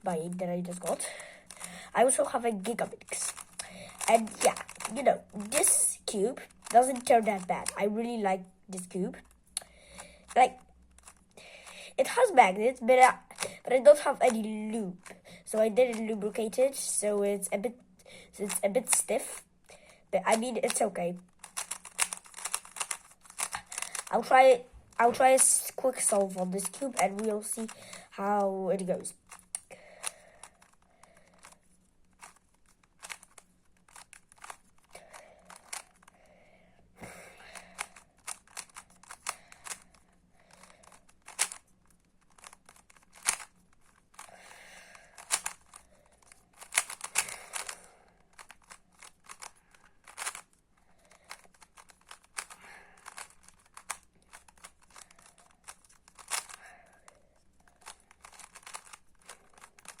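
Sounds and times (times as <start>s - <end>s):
speed cube plastic clicks: 0.0s - 60.0s.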